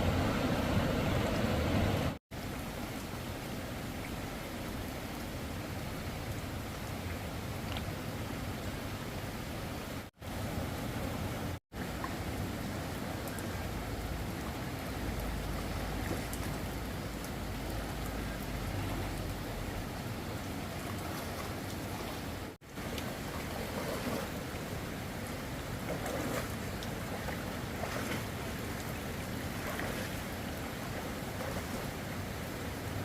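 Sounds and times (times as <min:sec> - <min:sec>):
rushing floodwater: 0:00.0 - 0:33.0.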